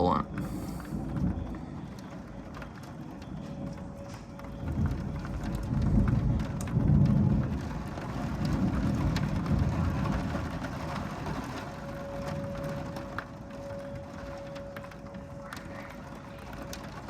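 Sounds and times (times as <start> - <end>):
rain: 0.0 - 17.0
thunder rumbling: 0.0 - 17.0.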